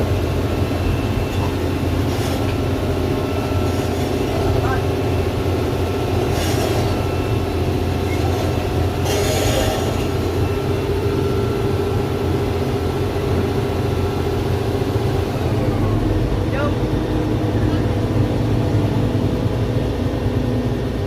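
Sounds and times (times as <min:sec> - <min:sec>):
excavator diesel engine running: 0:00.0 - 0:21.0
steady whine: 0:00.0 - 0:21.0.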